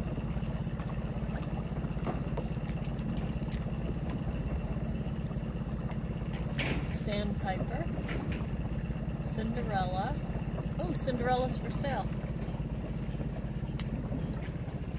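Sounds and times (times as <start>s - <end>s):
boat motor running: 0.0s - 14.9s.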